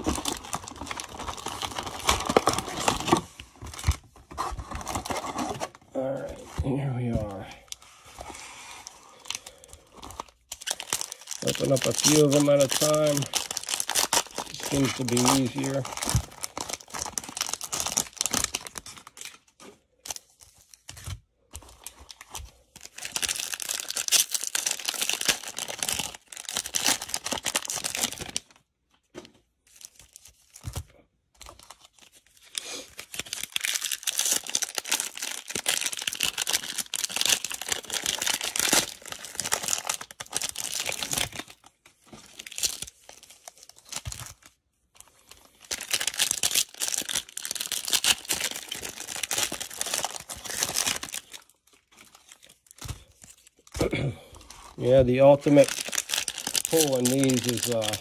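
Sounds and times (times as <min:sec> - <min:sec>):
plastic wrappers tearing and crinkling: 0:00.0 - 0:05.8, 0:09.1 - 0:28.6, 0:29.7 - 0:58.0.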